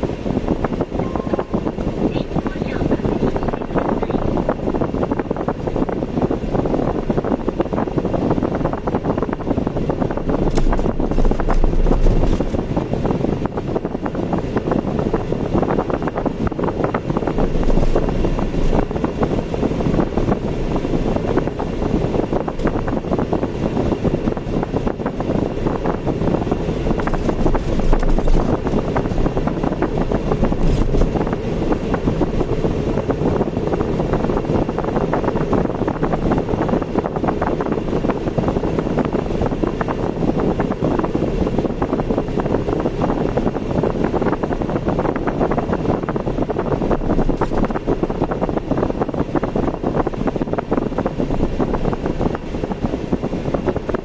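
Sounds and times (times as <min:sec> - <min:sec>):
car road and engine noise: 0:00.0 - 0:54.0
wind rushing: 0:00.0 - 0:54.0.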